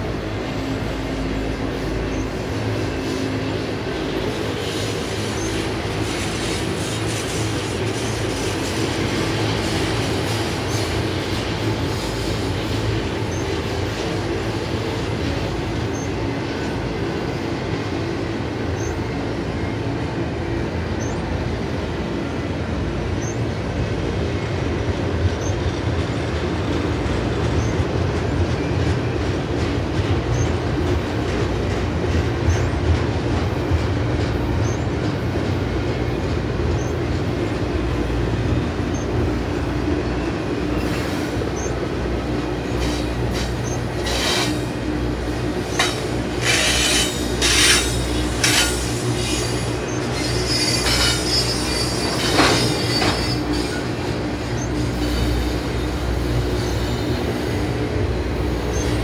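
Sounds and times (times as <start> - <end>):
train cars clicking and rattling: 0.0 - 59.0
train wheels rumbling on rail: 0.0 - 59.0.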